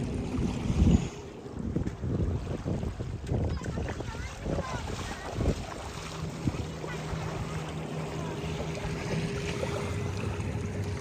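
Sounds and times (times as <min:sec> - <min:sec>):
distant motorboat engine: 0:00.0 - 0:11.0
water lapping: 0:00.0 - 0:11.0.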